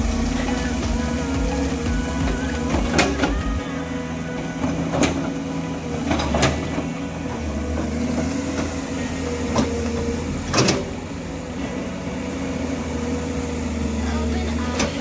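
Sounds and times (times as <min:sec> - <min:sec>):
excavator diesel engine whining: 0:00.0 - 0:15.0.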